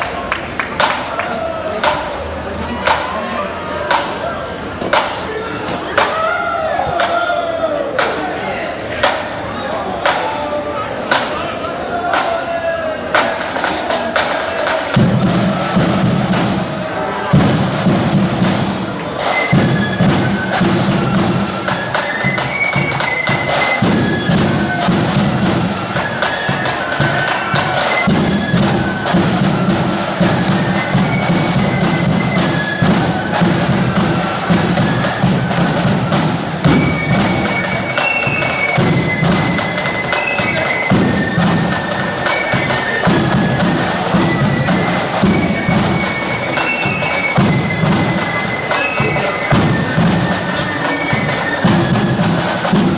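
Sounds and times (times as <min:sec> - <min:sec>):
drums beating: 0:00.0 - 0:52.9
high wind melody: 0:00.0 - 0:52.9.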